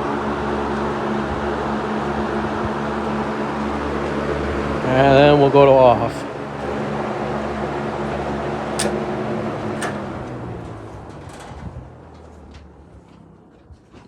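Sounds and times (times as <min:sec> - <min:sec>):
fan motor hum: 0:00.0 - 0:14.0
rush of fan blades: 0:00.0 - 0:14.0.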